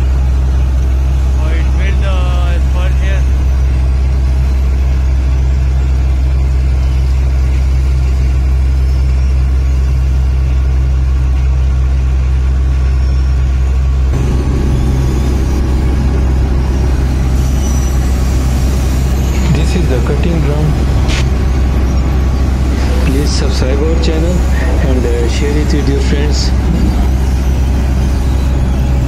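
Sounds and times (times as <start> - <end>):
coarse rumbling noise: 0.0 - 29.0
diesel engine running: 0.0 - 29.0.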